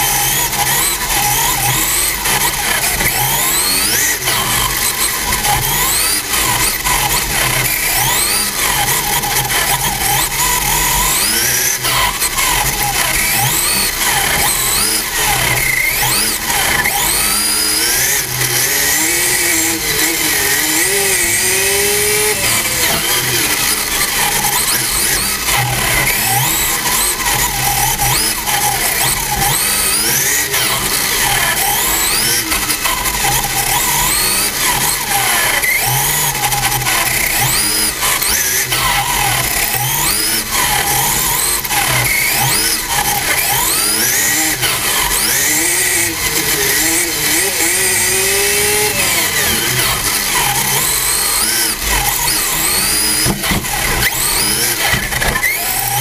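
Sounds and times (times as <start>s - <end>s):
rc car motor whining: 0.0s - 56.0s.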